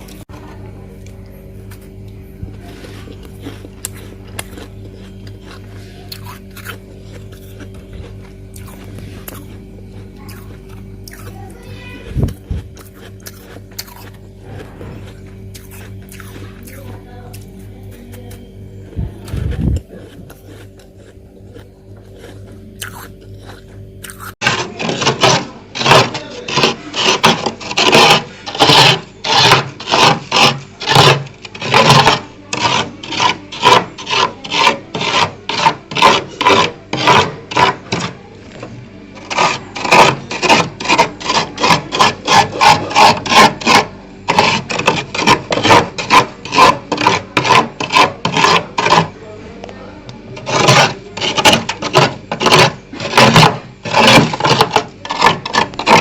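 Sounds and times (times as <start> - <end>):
low steady hum: 0.0 - 56.0
frost being scraped: 1.7 - 49.2, 50.4 - 56.0.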